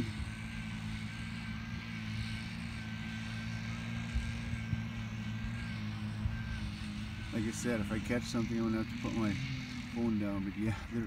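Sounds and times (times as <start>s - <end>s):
faint high whine: 0.0s - 11.0s
low machine hum: 0.0s - 11.0s.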